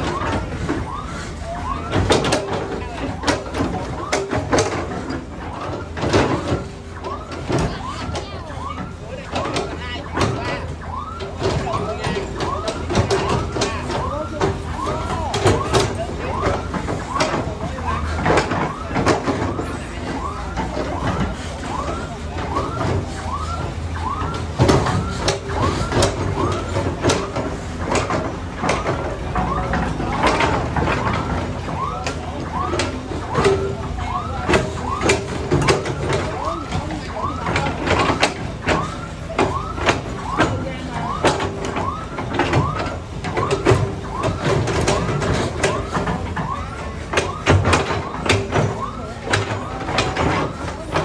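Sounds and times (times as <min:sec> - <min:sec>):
heavy diesel engine running: 0:00.0 - 0:51.0
metallic clanks and knocks: 0:00.0 - 0:51.0.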